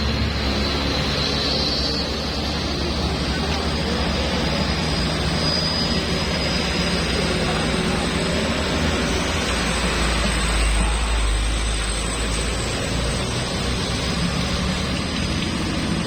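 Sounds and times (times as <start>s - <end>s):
heavy truck engine droning: 0.0s - 16.0s
road and wind noise: 0.0s - 16.0s.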